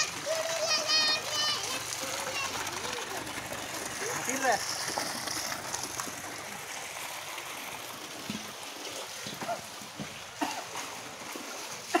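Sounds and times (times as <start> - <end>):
water splashing onto ground: 0.0 - 12.0.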